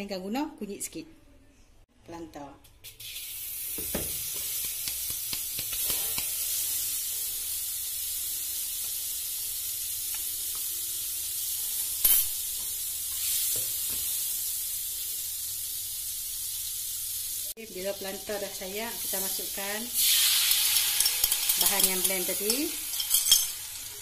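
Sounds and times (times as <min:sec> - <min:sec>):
margarine sizzling in a wok: 0:02.8 - 0:24.0.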